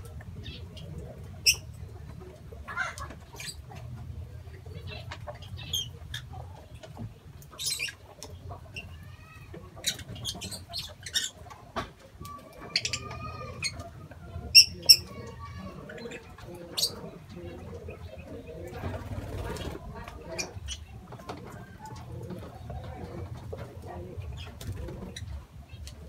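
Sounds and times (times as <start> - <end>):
lovebirds chirping and squeaking: 0.4 - 26.0.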